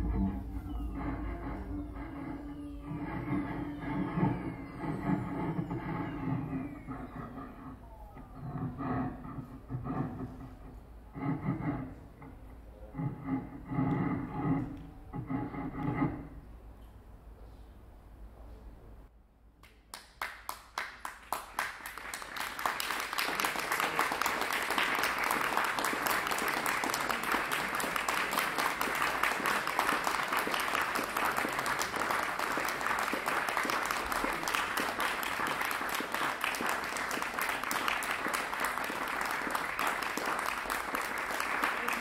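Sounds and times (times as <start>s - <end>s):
audience applauding: 0.0s - 11.7s, 19.6s - 42.0s.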